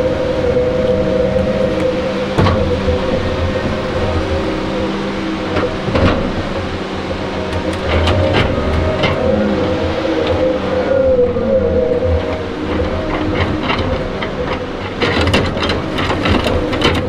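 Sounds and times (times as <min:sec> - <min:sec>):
diesel engine and hydraulics whine: 0:00.0 - 0:17.0.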